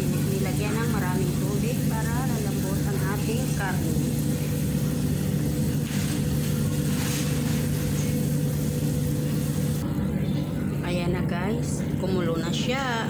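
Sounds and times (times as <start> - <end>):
broth boiling in a pot: 0.0 - 13.0
steady low hum: 0.0 - 13.0.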